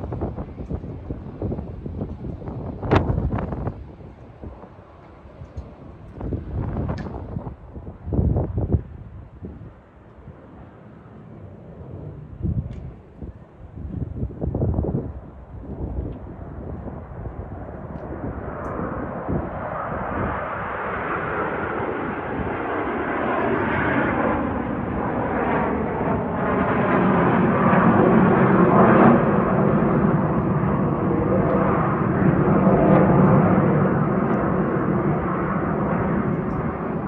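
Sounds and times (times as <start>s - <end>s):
jet aircraft roar: 0.0s - 37.0s.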